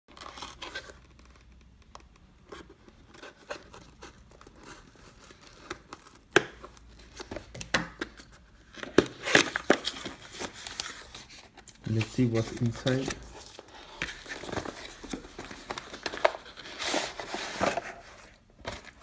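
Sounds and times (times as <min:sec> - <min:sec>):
packaging rustling and tearing: 0:00.1 - 0:19.0.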